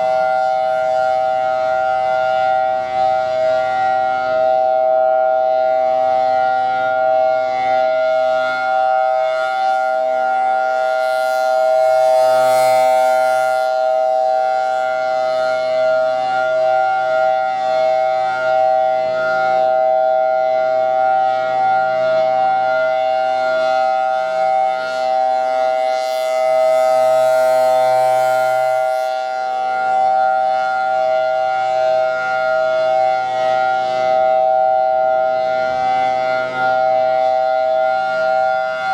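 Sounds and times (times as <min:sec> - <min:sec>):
rotating warning siren steady tone: 0:00.0 - 0:38.9.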